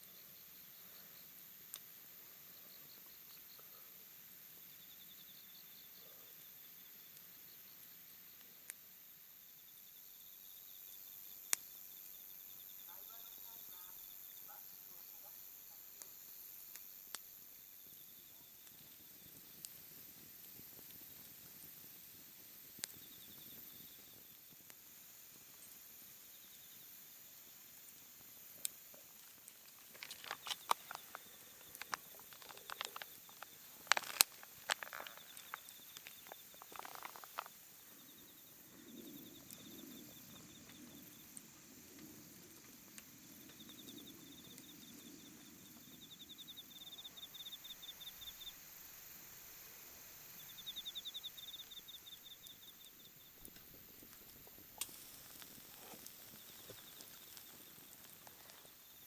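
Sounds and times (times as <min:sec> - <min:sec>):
insect chirping in pulsed trills: 0:00.0 - 0:59.0.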